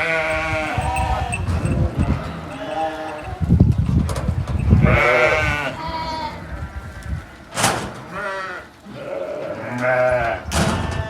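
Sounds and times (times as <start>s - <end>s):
sheep bleating: 0.0s - 3.6s, 4.6s - 7.4s, 8.1s - 11.0s.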